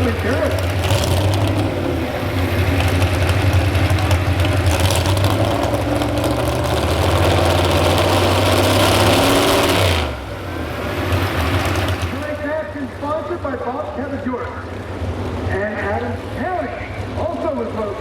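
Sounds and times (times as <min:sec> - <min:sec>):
truck engine running hard: 0:00.0 - 0:18.0.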